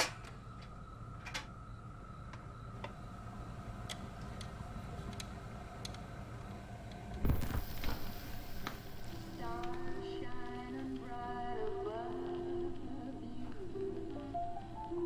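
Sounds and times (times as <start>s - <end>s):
record player hum: 0.0s - 15.0s.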